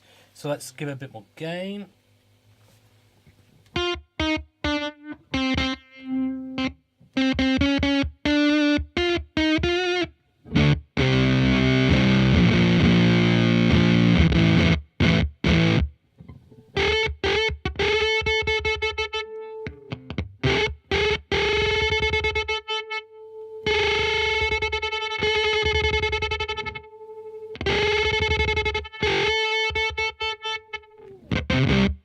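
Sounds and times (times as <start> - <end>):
electric guitar with gated fuzz: 3.7 - 32.0.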